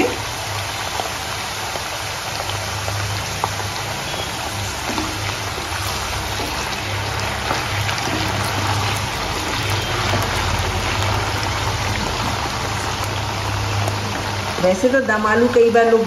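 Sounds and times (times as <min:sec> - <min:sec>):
potatoes sizzling in hot oil: 0:00.0 - 0:16.0.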